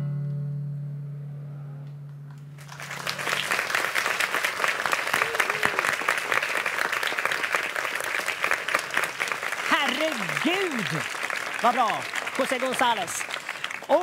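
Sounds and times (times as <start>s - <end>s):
audience applause: 2.6s - 14.0s.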